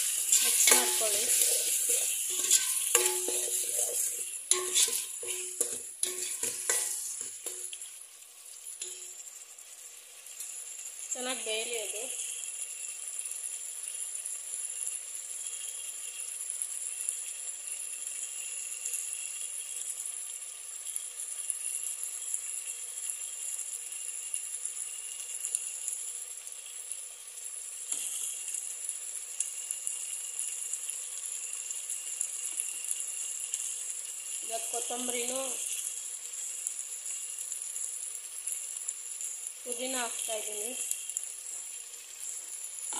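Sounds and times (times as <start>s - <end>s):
sharp crackle: 0.0s - 13.4s, 20.9s - 42.9s
vegetables frying in oil: 0.0s - 42.9s.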